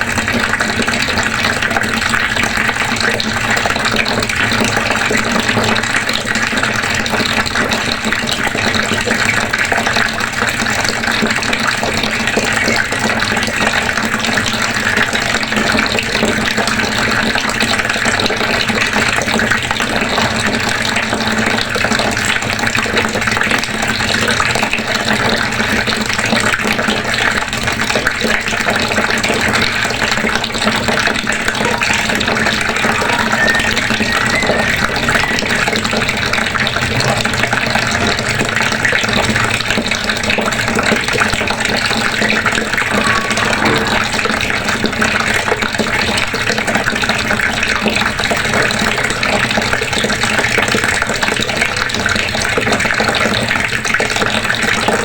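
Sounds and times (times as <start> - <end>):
water running from faucet: 0.0 - 55.0.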